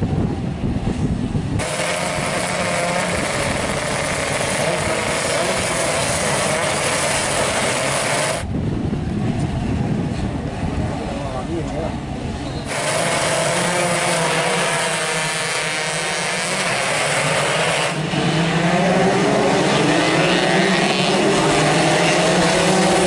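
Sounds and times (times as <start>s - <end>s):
racing motorcycles revving: 0.4s - 8.6s, 12.6s - 23.0s.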